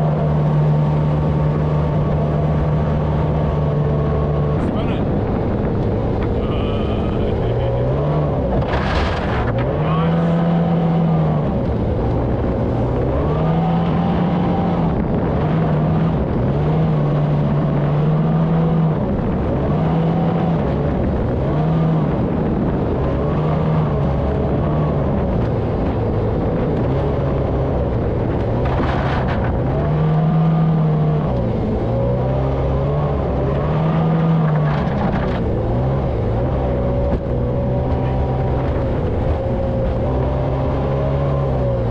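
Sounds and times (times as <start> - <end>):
jet boat engine revving: 0.0 - 41.9.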